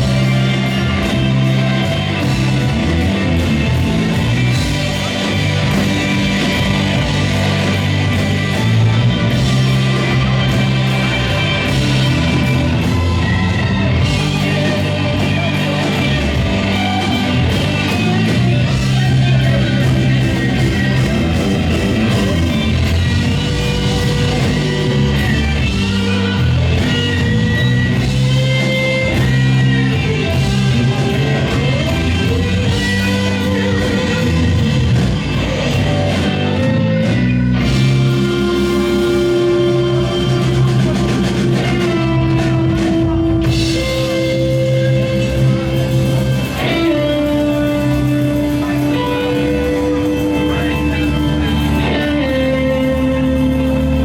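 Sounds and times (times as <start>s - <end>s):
electric guitar lines: 0.0s - 54.0s
live blues-rock band: 0.0s - 54.0s.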